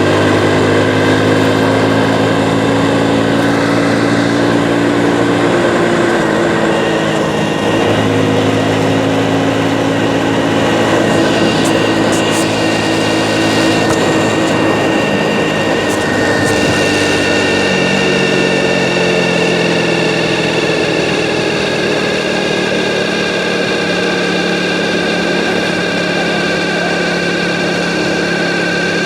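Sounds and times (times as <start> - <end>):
motorcycle engine running: 0.0 - 28.6.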